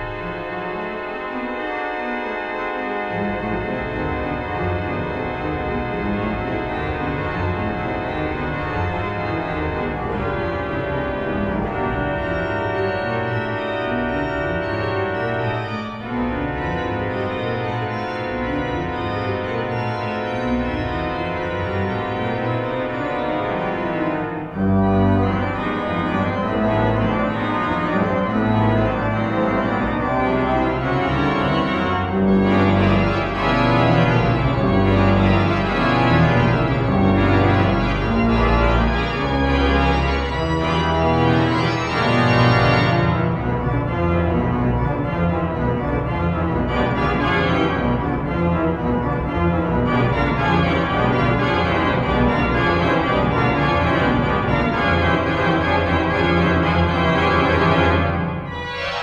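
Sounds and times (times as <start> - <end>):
deep organ pedal notes: 0.0 - 59.0
pipe organ chords: 0.0 - 59.0.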